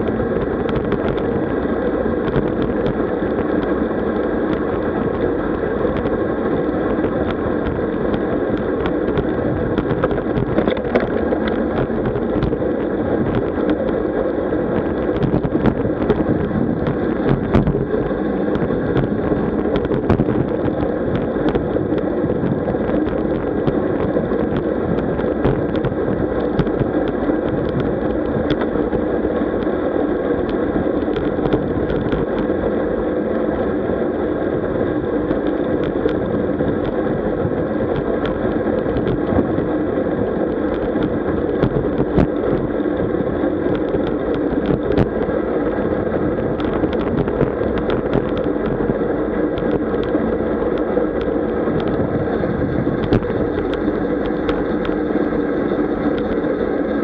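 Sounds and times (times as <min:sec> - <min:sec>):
bike tyre road noise: 0:00.0 - 0:57.0
wind on microphone: 0:00.0 - 0:57.0.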